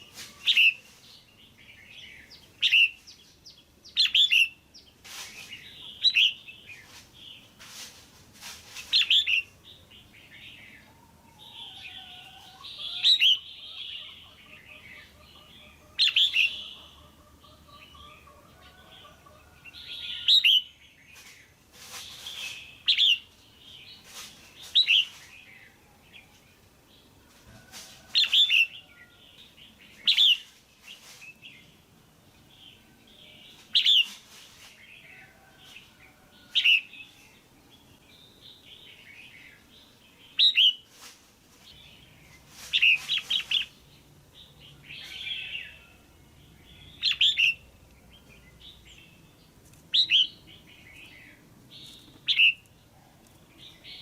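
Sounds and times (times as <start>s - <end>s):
bird chirping: 0.0s - 7.5s, 8.8s - 27.2s, 28.0s - 40.9s, 41.6s - 54.0s.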